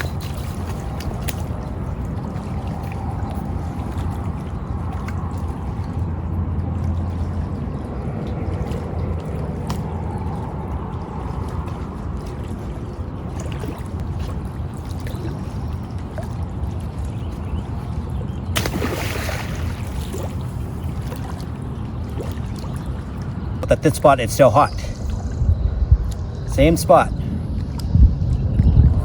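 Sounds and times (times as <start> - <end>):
river water: 0.0 - 29.0
wind rumbling on microphone: 0.0 - 29.0.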